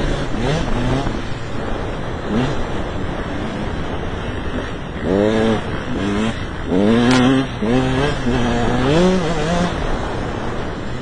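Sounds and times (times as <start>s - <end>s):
two-stroke engine accelerating: 0.0s - 11.0s.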